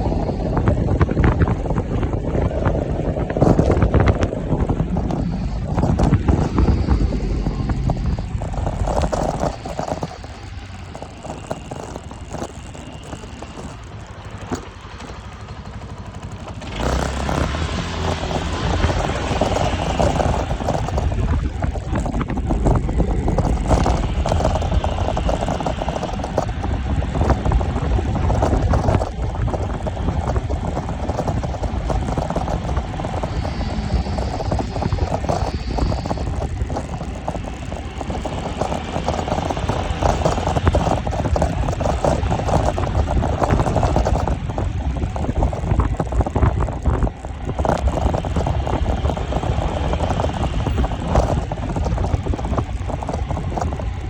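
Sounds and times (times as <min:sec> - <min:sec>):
moving vehicle rumble: 0:00.0 - 0:54.0
wind buffeting microphone: 0:00.0 - 0:54.0.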